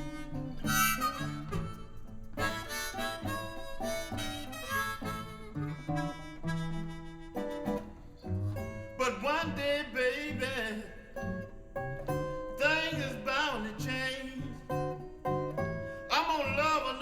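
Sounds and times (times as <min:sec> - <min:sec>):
blues harmonica solo: 0:00.0 - 0:10.5, 0:13.8 - 0:17.0.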